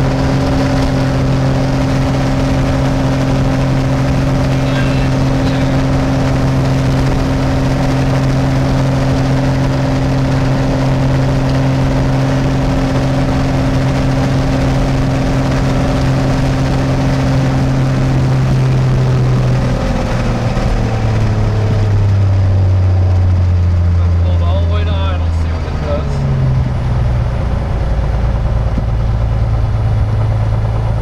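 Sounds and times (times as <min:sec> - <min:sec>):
propeller aircraft engine running: 0:00.0 - 0:31.0.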